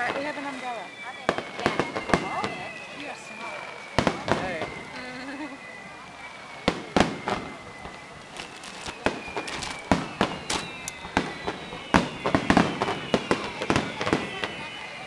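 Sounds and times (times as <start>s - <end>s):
fireworks bangs and pops: 0.0s - 5.8s, 6.5s - 15.0s.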